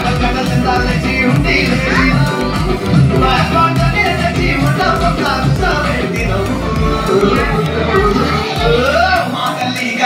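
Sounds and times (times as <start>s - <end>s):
dance music with steady beat: 0.0s - 10.0s.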